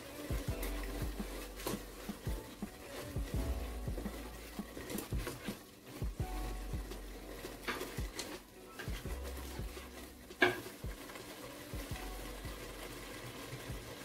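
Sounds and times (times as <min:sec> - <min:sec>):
wooden spoon stirring soup in pot: 0:00.0 - 0:14.0.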